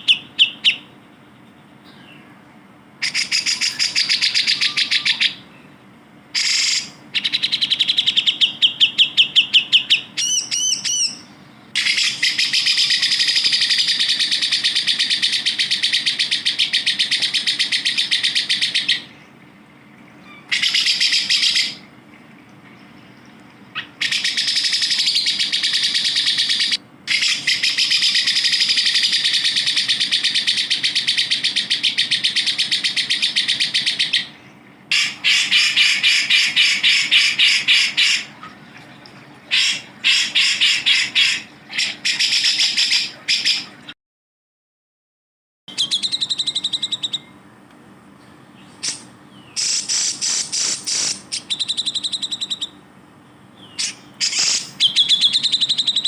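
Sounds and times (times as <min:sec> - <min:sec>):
bird chattering trills: 0:00.0 - 0:02.3, 0:03.0 - 0:05.6, 0:06.4 - 0:19.2, 0:20.2 - 0:21.9, 0:22.9 - 0:38.5, 0:39.5 - 0:43.8, 0:45.7 - 0:47.4, 0:48.6 - 0:52.8, 0:53.4 - 0:56.0.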